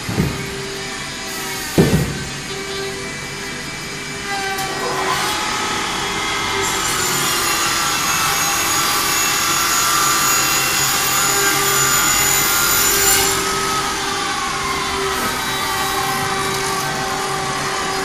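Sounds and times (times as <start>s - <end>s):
electric saw whining through wood: 0.0s - 18.0s
machine motors running: 0.0s - 18.0s.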